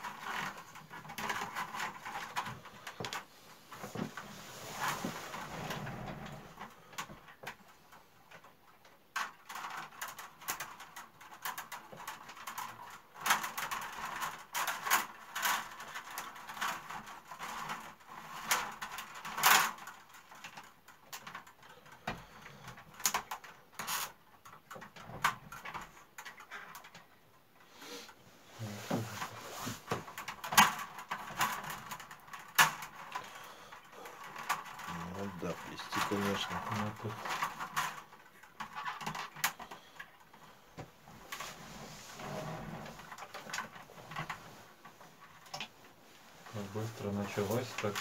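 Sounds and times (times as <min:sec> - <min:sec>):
weaving strip rustling and scraping: 0:00.0 - 0:48.0
wicker rods clicking and creaking: 0:00.0 - 0:48.0.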